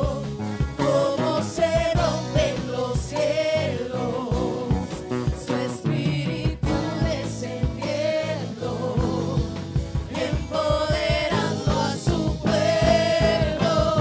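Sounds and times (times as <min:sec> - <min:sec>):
worship song with band: 0:00.0 - 0:14.0.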